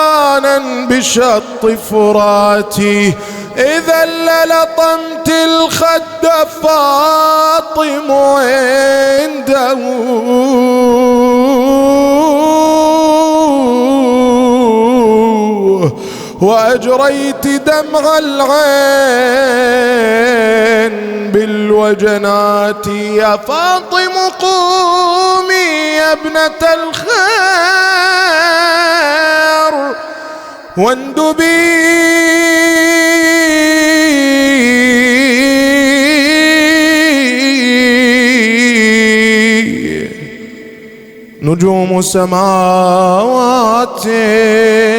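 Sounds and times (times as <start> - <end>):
man chanting a long vowel: 0.0 - 44.9
man singing long ornamented note: 0.0 - 44.9.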